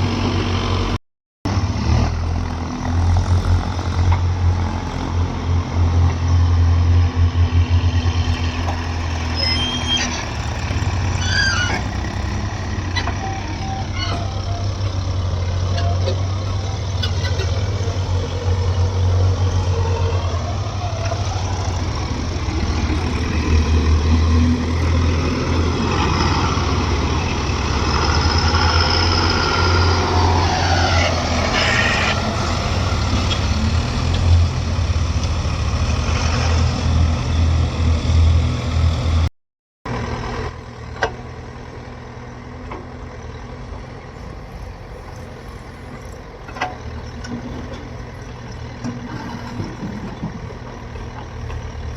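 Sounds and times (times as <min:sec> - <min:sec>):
diesel engine humming: 0:00.0 - 0:39.3, 0:39.9 - 0:51.9.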